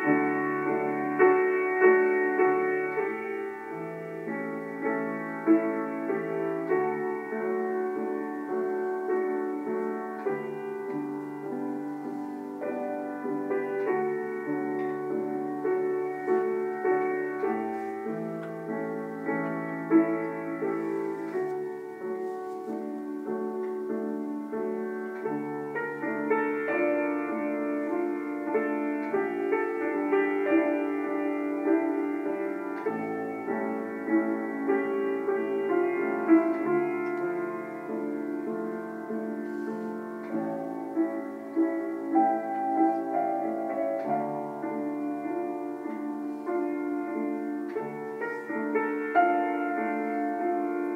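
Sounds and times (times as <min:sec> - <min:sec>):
slow piano music: 0:00.0 - 0:50.9.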